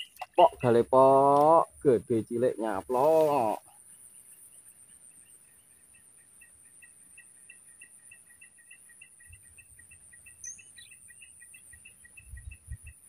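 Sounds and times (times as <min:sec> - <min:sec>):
insects droning: 0:00.0 - 0:13.0
quick insect chirps: 0:00.0 - 0:13.0.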